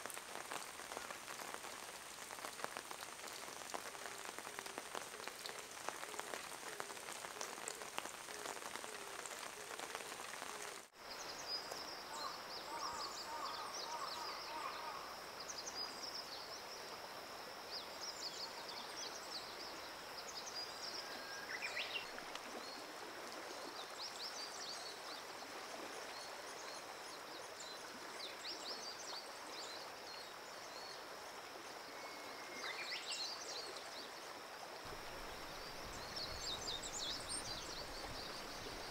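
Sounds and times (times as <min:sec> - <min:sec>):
rain pattering on leaves: 0:00.0 - 0:15.0, 0:18.2 - 0:31.5, 0:34.4 - 0:38.9
running river water: 0:00.0 - 0:38.9.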